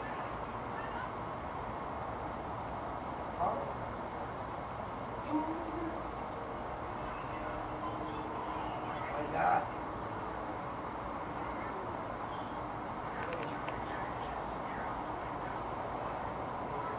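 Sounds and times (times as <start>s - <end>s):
crickets trilling: 0.0s - 16.9s
faint background hiss: 0.0s - 16.9s.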